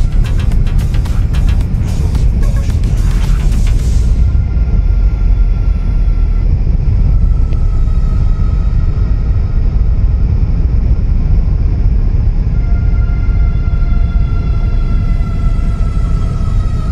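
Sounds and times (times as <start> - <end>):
faint steady tones: 0.0 - 16.9
motorcycle engine and wind rumble: 0.0 - 16.9.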